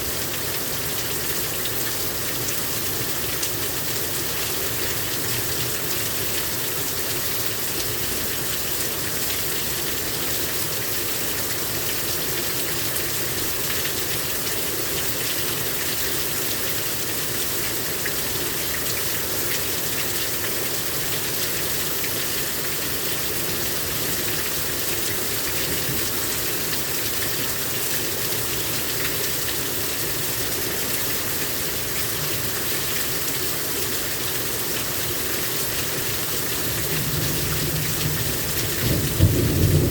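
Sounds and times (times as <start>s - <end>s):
heavy rain pouring: 0.0s - 39.9s
water gushing: 0.0s - 39.9s.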